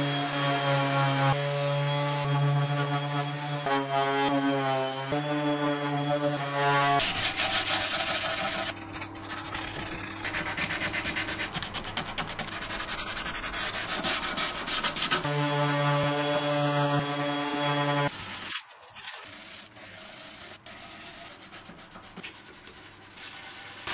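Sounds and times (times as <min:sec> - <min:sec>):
hand sanding wood: 0:00.0 - 0:18.6, 0:19.3 - 0:23.9.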